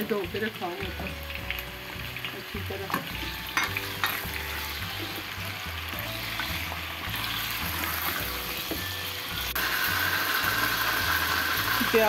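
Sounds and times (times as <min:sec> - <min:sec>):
background music with bass line: 0:00.0 - 0:12.0
potatoes sizzling in oil: 0:00.0 - 0:12.0.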